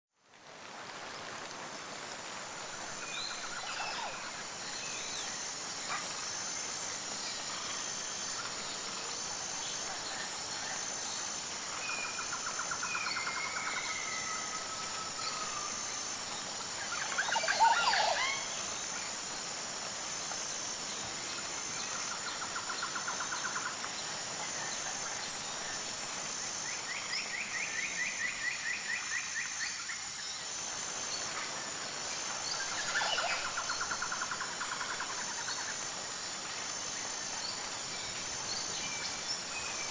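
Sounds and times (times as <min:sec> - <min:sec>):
insect drone: 0:00.3 - 0:39.9.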